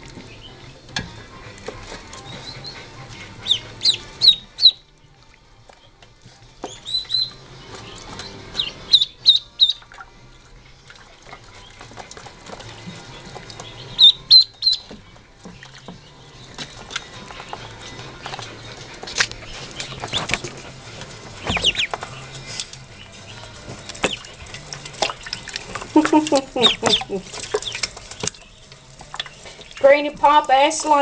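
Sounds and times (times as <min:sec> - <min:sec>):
ducklings peeping: 0:00.0 - 0:31.0.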